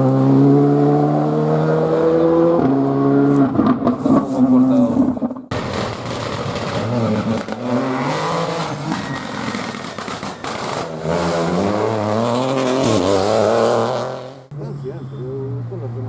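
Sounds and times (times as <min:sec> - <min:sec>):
rally car engine accelerating: 0:00.0 - 0:14.5.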